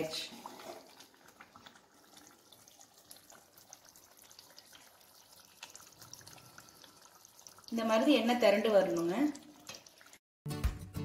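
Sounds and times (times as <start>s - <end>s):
pickle popping and bubbling: 0.0s - 7.8s, 8.8s - 10.2s.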